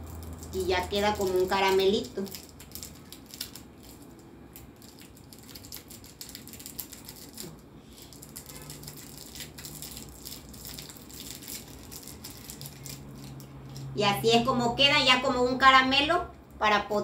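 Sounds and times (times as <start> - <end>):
cellophane wrapper crinkling: 0.0 - 13.9.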